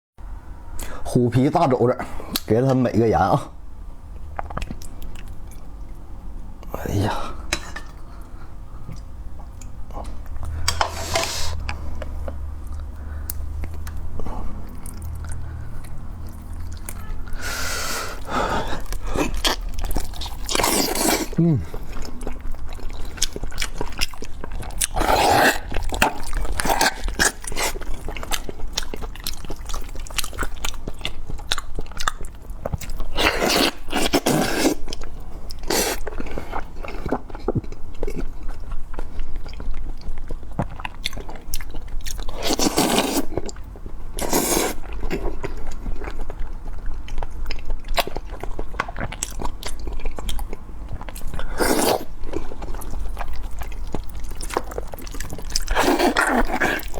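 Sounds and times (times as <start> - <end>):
person chewing crunchy food: 7.4 - 56.9.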